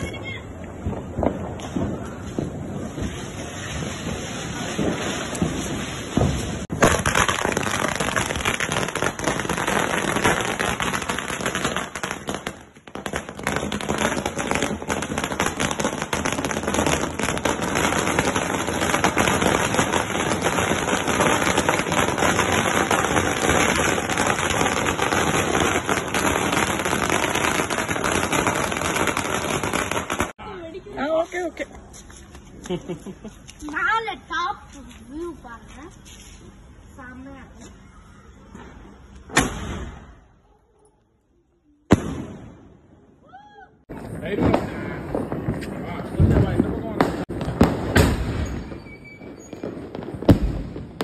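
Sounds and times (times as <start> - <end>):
firecrackers bursting: 0.0 - 37.6, 38.2 - 40.4, 41.8 - 43.1, 43.8 - 51.0.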